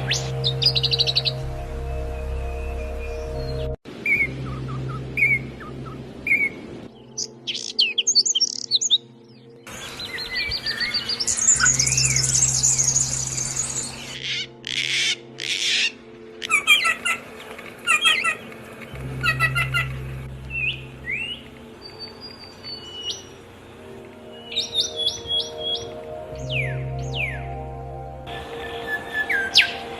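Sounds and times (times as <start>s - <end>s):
background music: 0.0s - 29.9s
songbirds chirping: 0.0s - 29.9s.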